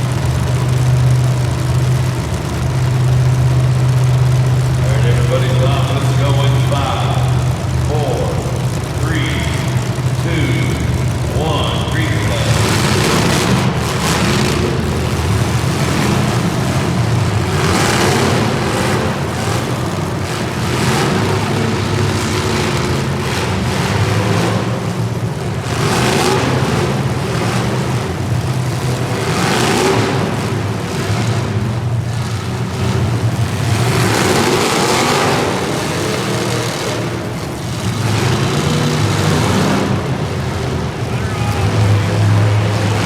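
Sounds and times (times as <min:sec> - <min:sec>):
background engine drone: 0:00.0 - 0:43.0
race vehicles passing by: 0:00.0 - 0:43.0.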